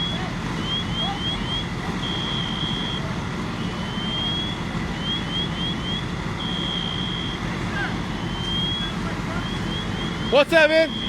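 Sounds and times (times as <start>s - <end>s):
electronic alarm tones: 0.0s - 7.4s, 8.1s - 11.0s
engines rumbling: 0.0s - 11.0s.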